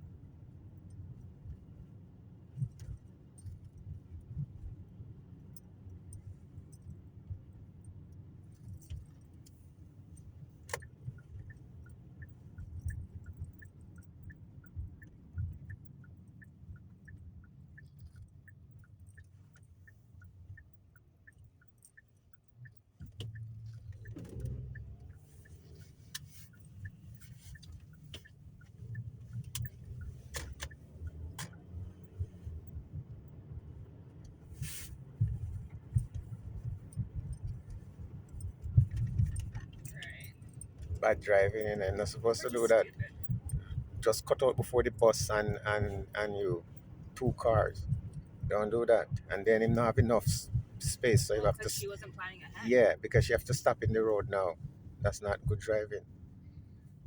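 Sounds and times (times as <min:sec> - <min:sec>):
car engine rumble: 0:00.0 - 0:57.0
road noise: 0:00.0 - 0:57.0
turn signal ticking: 0:00.0 - 0:57.0.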